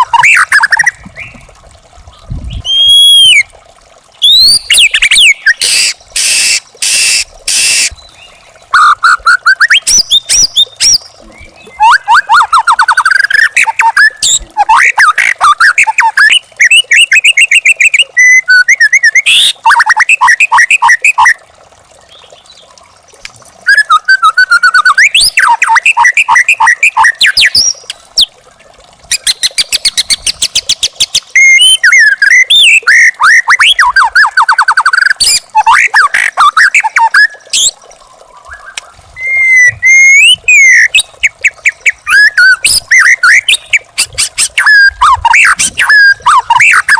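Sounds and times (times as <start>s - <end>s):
bird singing whistles and trills: 2.1s - 3.5s, 4.2s - 21.4s, 23.6s - 28.3s, 29.1s - 37.8s, 38.5s - 46.9s.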